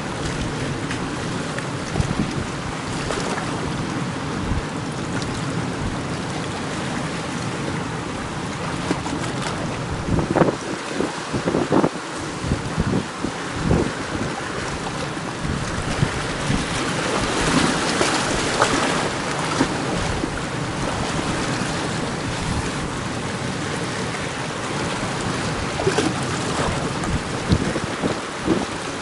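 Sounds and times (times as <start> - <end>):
wind buffeting microphone: 0.0 - 6.1, 8.8 - 29.0
sea surf: 0.0 - 29.0.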